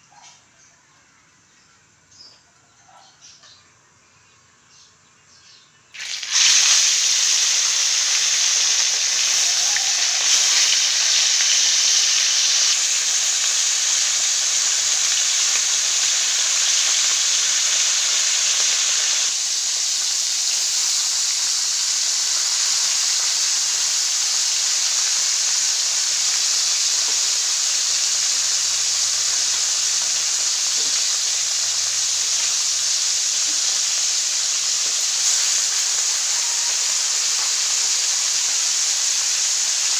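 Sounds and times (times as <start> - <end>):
fish sizzling in hot oil: 6.0 - 39.9.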